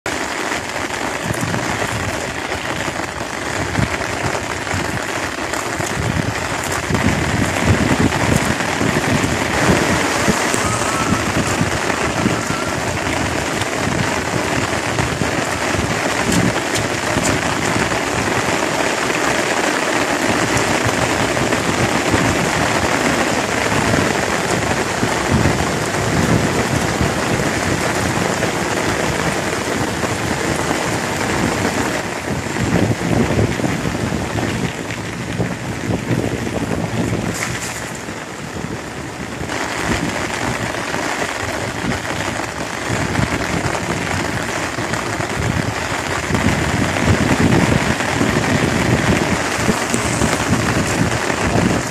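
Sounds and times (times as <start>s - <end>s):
rain falling on pond: 0.0s - 51.9s.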